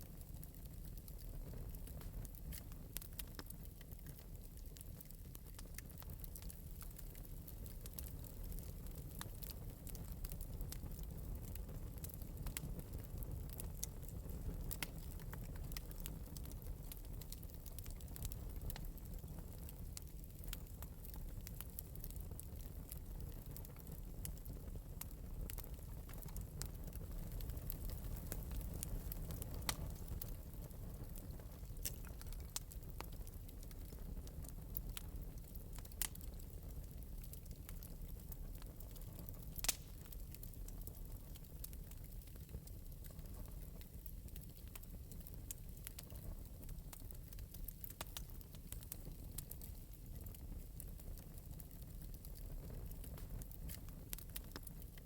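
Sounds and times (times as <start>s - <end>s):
fire crackling and popping: 0.0s - 55.0s
low rumble of flame: 0.0s - 55.0s.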